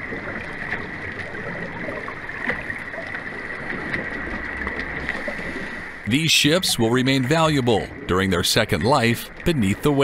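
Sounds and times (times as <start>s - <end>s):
underwater water noise: 0.0s - 10.0s.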